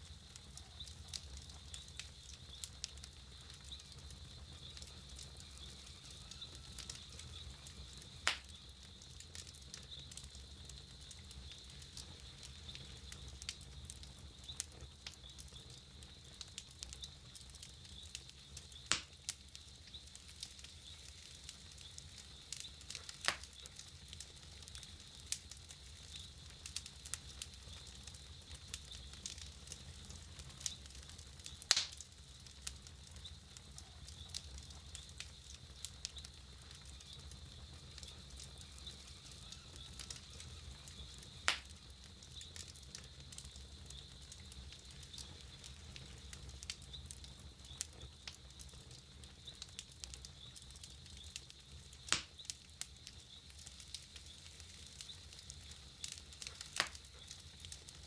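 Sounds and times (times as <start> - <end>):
campfire crackling: 0.0 - 58.0
loud sharp pops of fire: 0.1 - 58.0.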